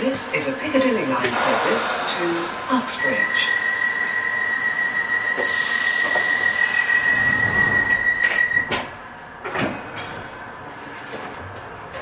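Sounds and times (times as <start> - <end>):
train cabin noise: 0.0 - 12.0.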